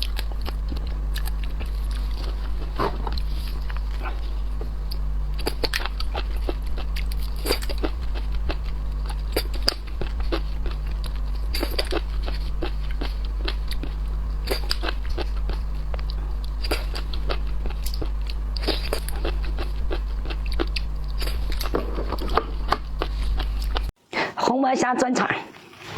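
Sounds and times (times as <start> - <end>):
chewing crunchy shrimp: 0.0 - 23.9
low hum: 0.0 - 23.9.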